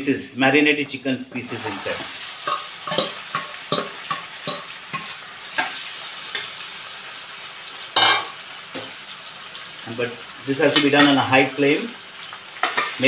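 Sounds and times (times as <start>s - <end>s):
chicken sizzling in oil: 0.9s - 13.0s.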